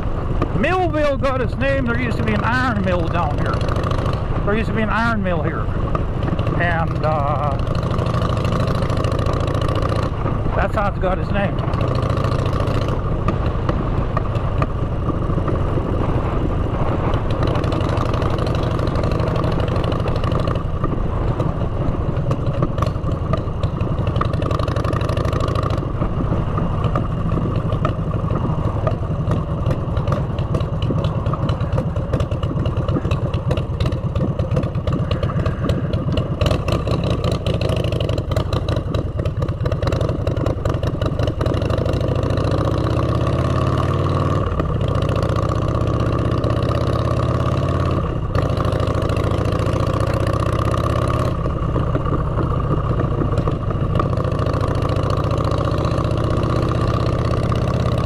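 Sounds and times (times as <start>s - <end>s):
motorcycle engine riding: 0.0s - 58.0s.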